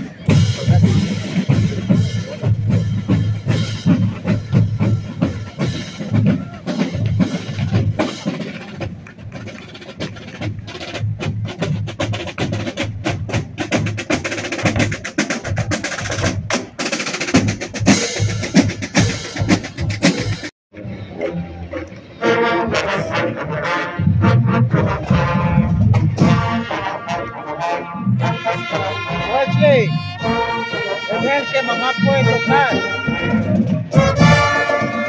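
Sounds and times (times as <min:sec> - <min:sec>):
snare drum strokes and rolls: 0:00.0 - 0:27.4, 0:28.2 - 0:35.0.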